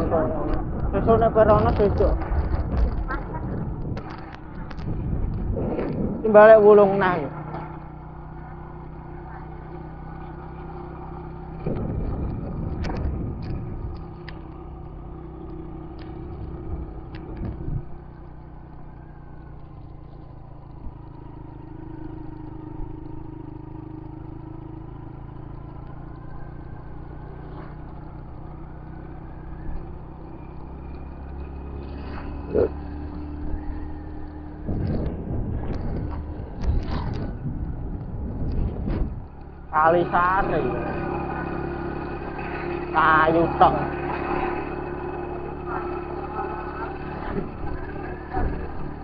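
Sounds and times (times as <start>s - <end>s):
motorcycle engine running: 0.0s - 49.0s
road and wind rumble: 0.0s - 49.0s.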